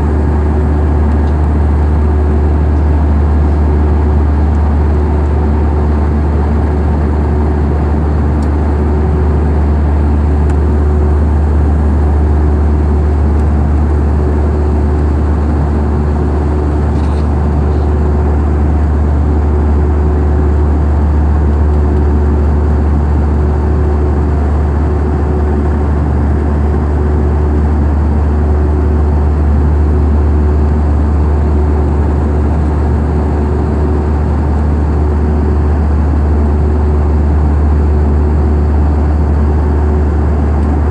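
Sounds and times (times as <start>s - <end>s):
low engine drone: 0.0s - 40.9s.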